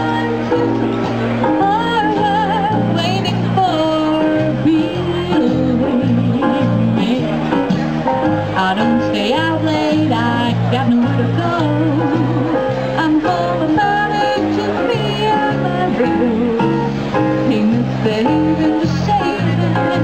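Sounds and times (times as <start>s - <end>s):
woman singing with vibrato: 0.0s - 7.7s, 8.6s - 20.0s
backing music with bass line: 0.0s - 20.0s.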